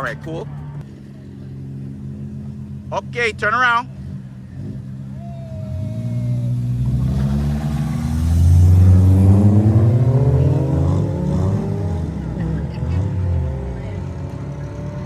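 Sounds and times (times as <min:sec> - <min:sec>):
car engine accelerating hard: 0:01.1 - 0:15.0.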